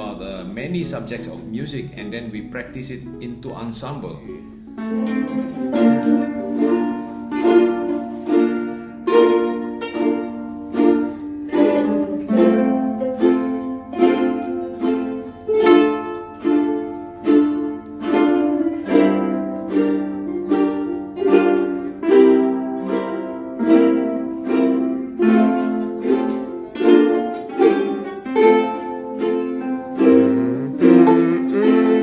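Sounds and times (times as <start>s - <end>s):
fingerstyle ukulele: 0.8s - 32.0s.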